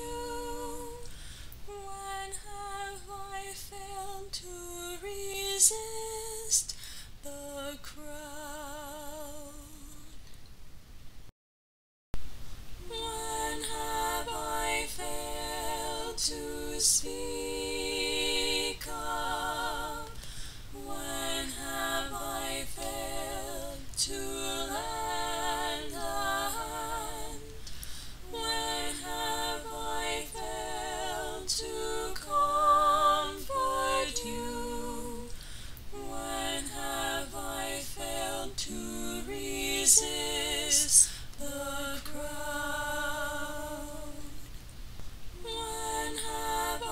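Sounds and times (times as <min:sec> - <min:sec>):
woman singing unaccompanied: 0:00.0 - 0:10.2, 0:12.8 - 0:20.2, 0:20.8 - 0:35.4, 0:36.0 - 0:44.5.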